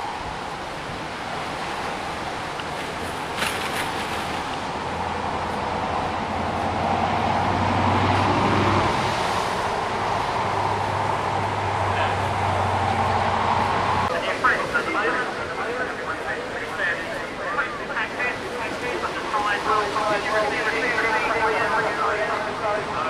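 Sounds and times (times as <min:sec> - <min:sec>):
wheel and rail rush: 0:00.0 - 0:23.0
train engine hum: 0:04.0 - 0:23.0.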